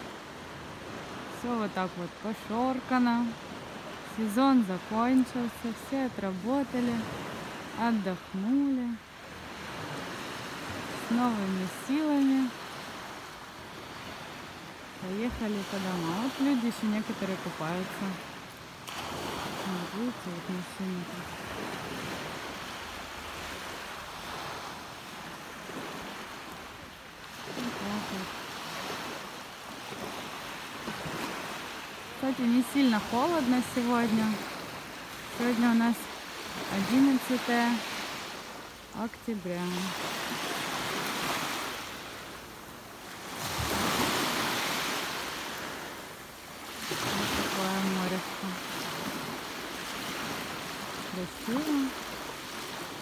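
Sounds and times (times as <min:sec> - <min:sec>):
small waves breaking on sand: 0:00.0 - 0:53.0.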